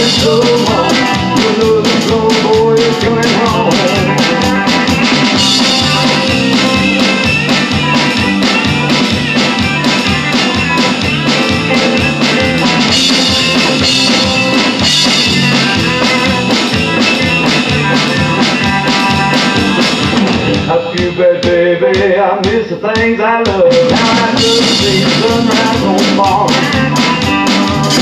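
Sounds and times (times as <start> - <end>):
electric guitar: 0.0 - 22.6, 23.6 - 28.0
bass: 0.0 - 28.0
drum kit beat: 0.0 - 28.0.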